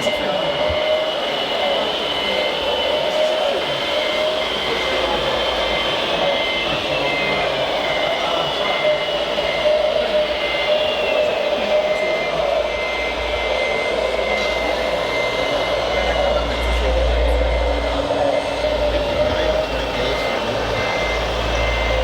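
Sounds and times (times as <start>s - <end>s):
electric motor and gear whine: 0.0s - 22.0s
reversing warning beeps: 0.0s - 22.0s
whine falling in pitch: 0.0s - 22.0s.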